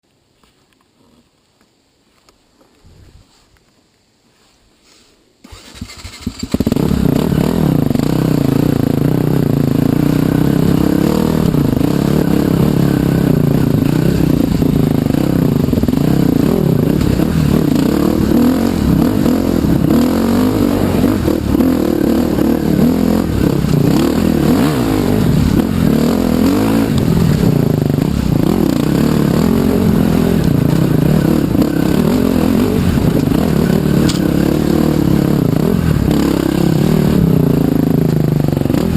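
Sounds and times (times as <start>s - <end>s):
motorcycle engine revving: 5.4s - 38.9s.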